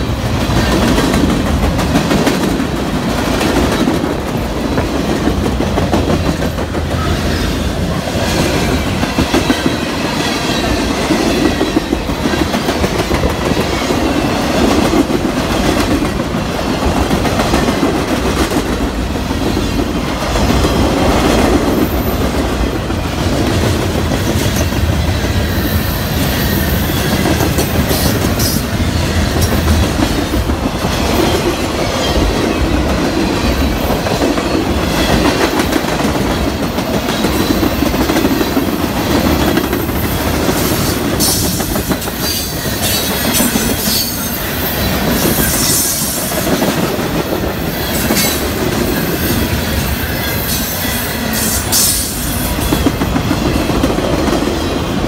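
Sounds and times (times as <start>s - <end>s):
train rumble: 0.0s - 55.0s
train wheels clacking on rails: 0.0s - 55.0s.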